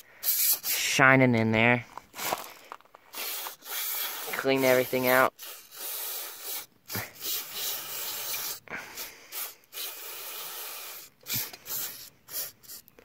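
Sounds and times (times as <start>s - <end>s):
aerosol spray hissing: 0.0s - 0.8s, 3.1s - 12.9s.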